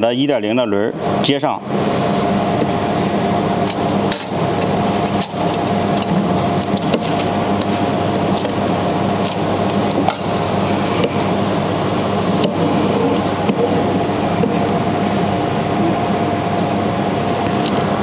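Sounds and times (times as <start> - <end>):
loud machine hum: 0.0 - 18.0.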